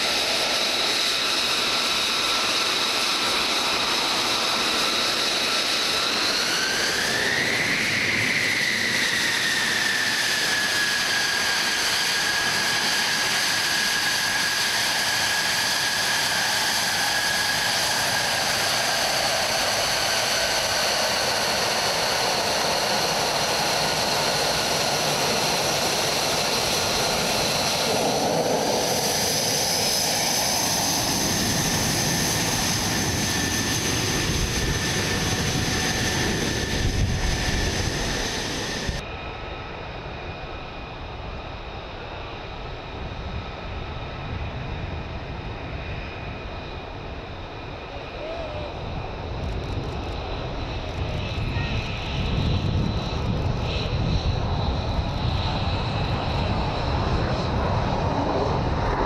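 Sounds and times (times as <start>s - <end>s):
jet engine whine: 0.0s - 59.0s.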